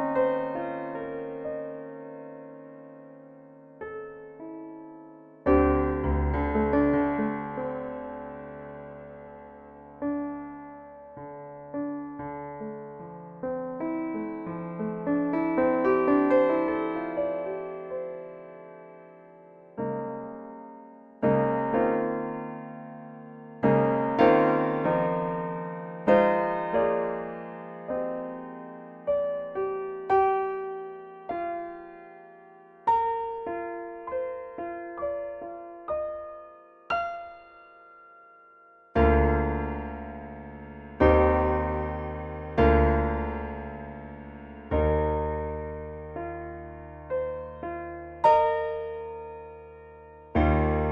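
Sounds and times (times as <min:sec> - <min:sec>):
slow solo piano music: 0:00.0 - 0:50.9.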